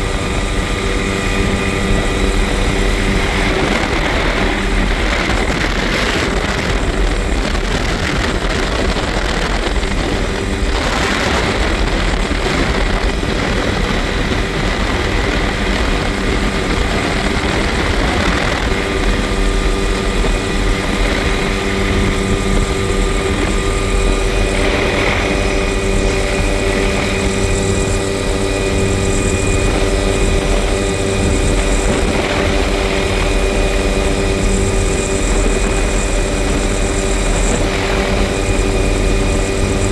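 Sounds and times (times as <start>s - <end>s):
helicopter turbine and rotor: 0.0s - 39.9s
wind rushing: 0.0s - 39.9s.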